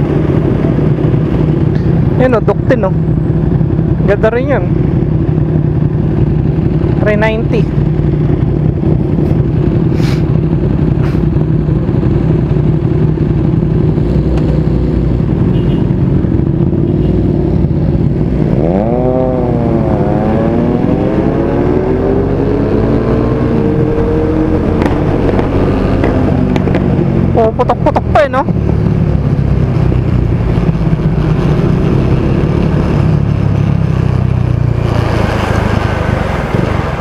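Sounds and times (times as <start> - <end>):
motorcycle engine idling and revving: 0.0 - 37.0.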